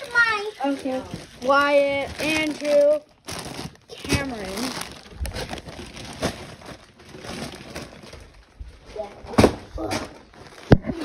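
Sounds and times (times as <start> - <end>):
wrapping paper rustling: 0.0 - 11.0.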